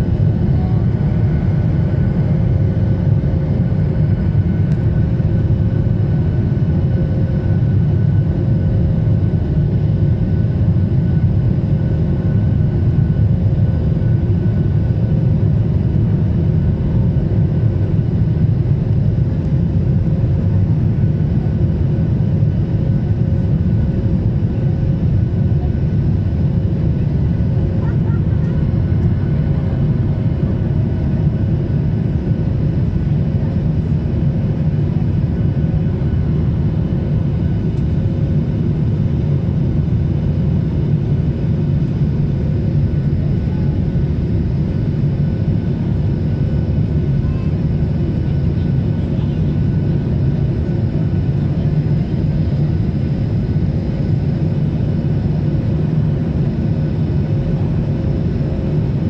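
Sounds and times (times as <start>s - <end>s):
jet engine and airflow rush: 0.0s - 59.0s.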